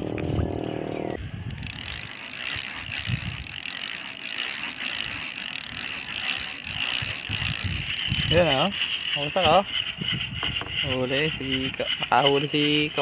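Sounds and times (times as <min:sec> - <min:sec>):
fishing reel whirring: 0:01.2 - 0:13.0.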